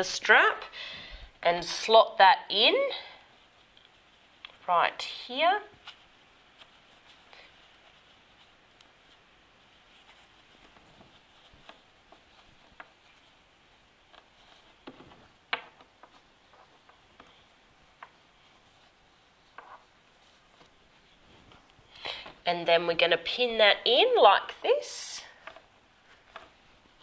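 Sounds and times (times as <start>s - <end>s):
fabric rustling on a tabletop: 1.6s - 27.0s.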